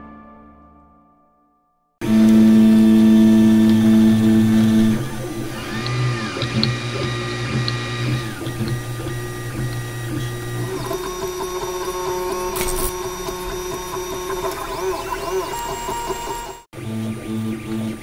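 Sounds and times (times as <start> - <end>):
stepper motors whining: 2.0 - 18.0.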